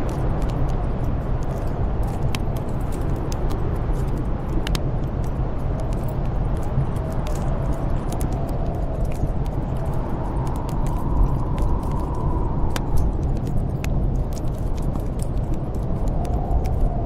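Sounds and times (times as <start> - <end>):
snowstorm wind rumble: 0.0 - 17.0
wood fire crackling: 0.0 - 17.0.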